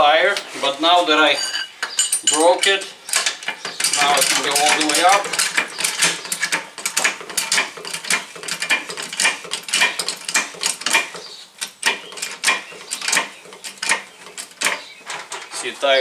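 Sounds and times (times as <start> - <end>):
floor jack clanking: 3.2 - 16.0.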